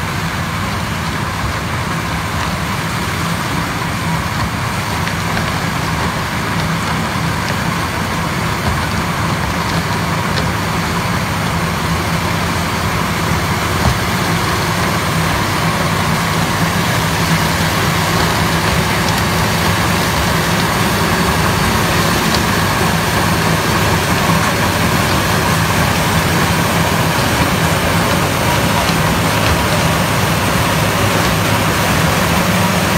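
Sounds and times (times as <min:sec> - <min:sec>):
harvester running under load: 0:00.0 - 0:32.9.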